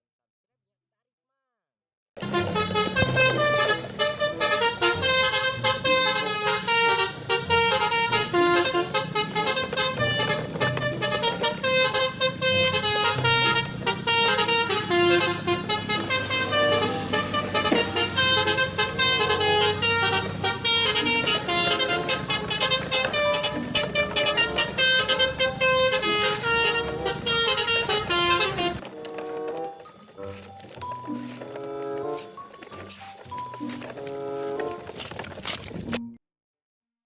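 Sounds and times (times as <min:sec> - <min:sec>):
upbeat synth music: 0:02.2 - 0:35.1.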